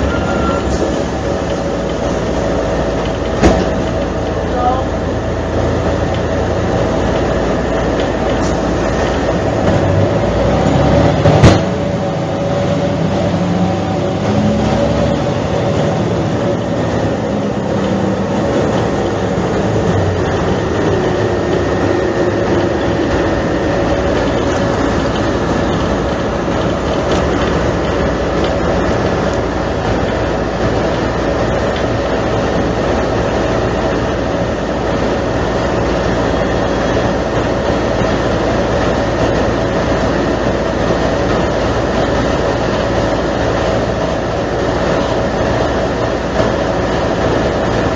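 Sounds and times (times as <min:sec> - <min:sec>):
bus engine rumble: 0:00.0 - 0:47.9.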